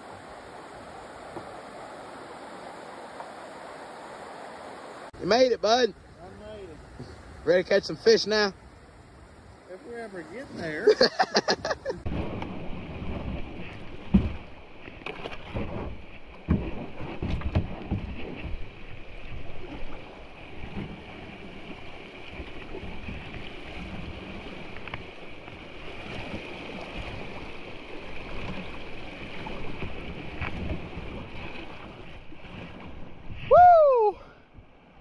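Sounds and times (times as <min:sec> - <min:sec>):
running water: 0:00.0 - 0:34.4
paddle strokes: 0:00.0 - 0:35.0
water splashing against hull: 0:00.0 - 0:35.0.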